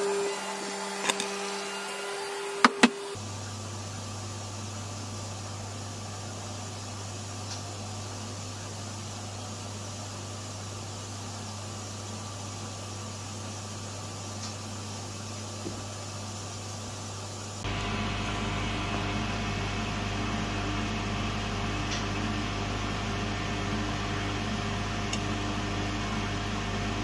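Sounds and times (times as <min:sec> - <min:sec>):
low machine hum with hiss: 0:02.8 - 0:27.0.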